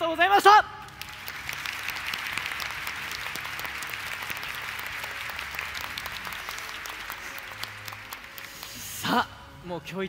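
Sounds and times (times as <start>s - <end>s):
crowd applauding: 0.8s - 9.3s.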